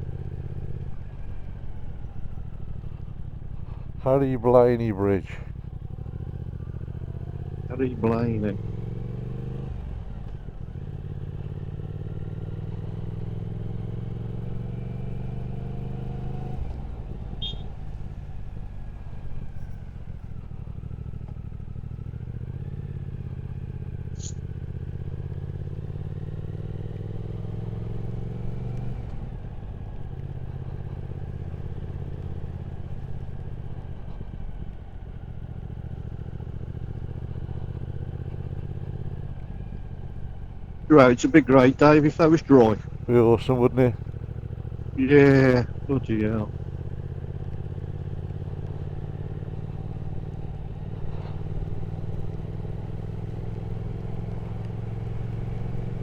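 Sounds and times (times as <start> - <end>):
motorcycle engine under way: 0.0 - 56.0
road noise: 0.0 - 56.0.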